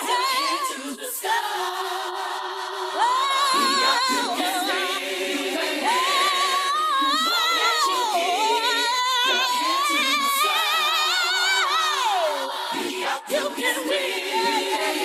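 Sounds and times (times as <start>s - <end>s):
choir sustaining harmonies: 0.0s - 15.0s.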